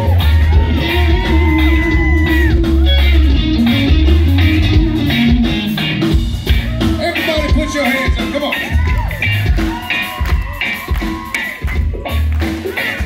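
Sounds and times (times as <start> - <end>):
lead guitar bending long notes: 0.0 - 13.0
live rock band playing: 0.0 - 13.0.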